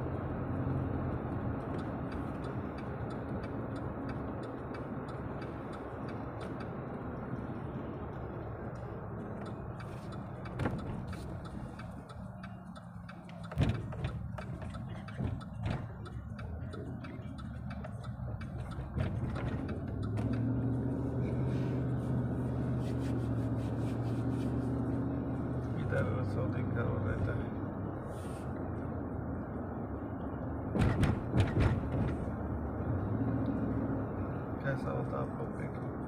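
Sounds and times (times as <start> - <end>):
car engine drone: 0.0 - 36.0.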